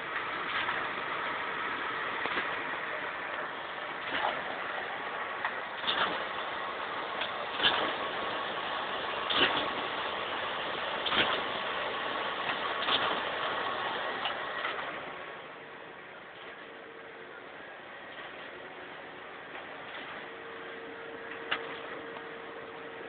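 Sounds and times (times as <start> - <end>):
printing press humming: 0.0 - 23.0.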